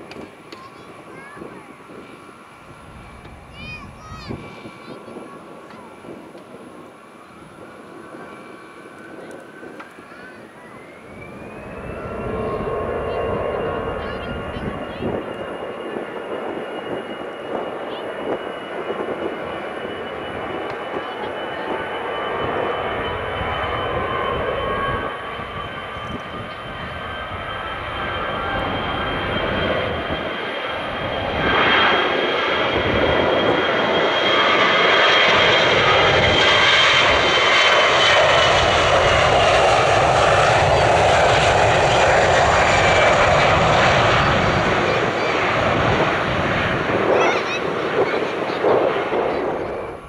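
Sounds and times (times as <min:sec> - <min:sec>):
jet engines roaring: 0:00.0 - 0:50.0
high engine whine: 0:05.4 - 0:50.0.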